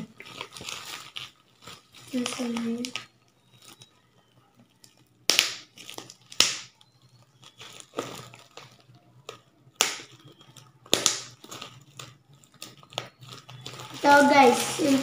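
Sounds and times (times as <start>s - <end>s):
paper and plastic packaging crinkling: 0.0s - 15.0s.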